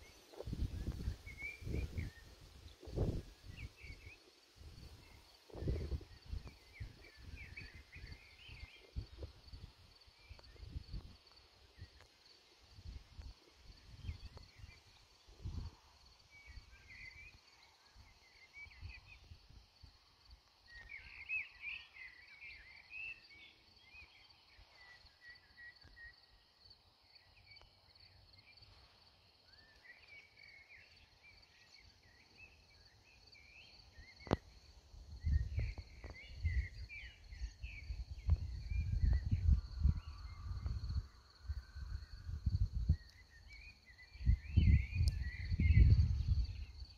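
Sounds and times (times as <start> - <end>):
low wind: 0.0 - 46.9.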